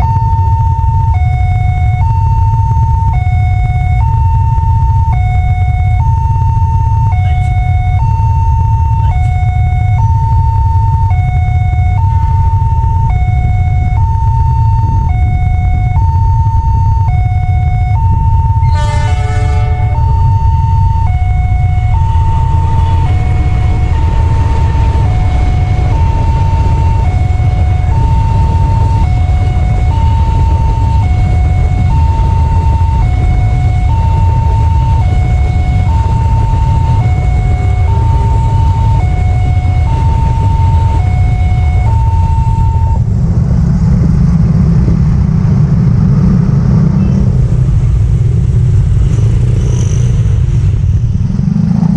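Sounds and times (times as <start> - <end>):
two-tone level crossing alarm: 0.0 - 43.1
motorcycle engines: 0.0 - 51.9
freight train rumbling past: 4.4 - 51.9.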